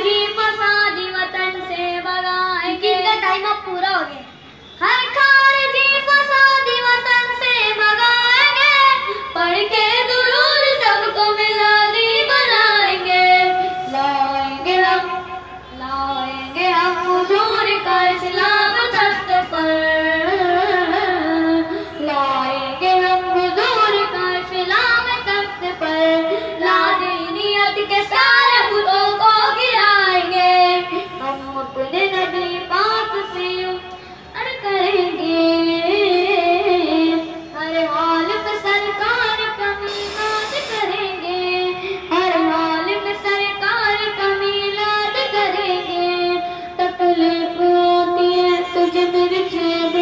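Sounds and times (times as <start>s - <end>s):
boy singing into a microphone: 0.0s - 50.0s.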